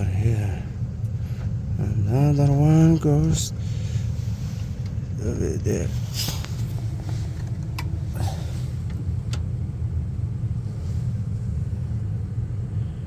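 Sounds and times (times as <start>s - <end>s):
furnace motors rumbling: 0.0s - 13.0s.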